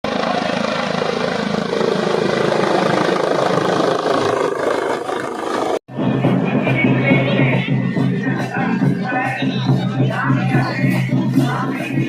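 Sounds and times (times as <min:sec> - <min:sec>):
helicopter rotor fluttering: 0:00.0 - 0:12.0.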